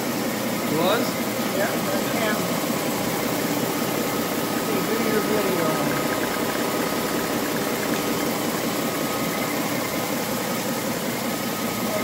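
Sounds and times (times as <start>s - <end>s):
engine mechanical clatter: 0.0s - 12.0s
thin steady whine: 0.0s - 12.0s.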